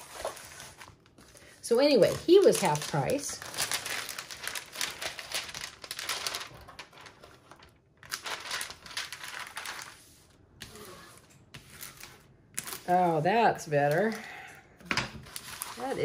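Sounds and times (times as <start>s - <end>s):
plastic sheet crinkling: 0.0s - 14.3s, 15.1s - 16.0s.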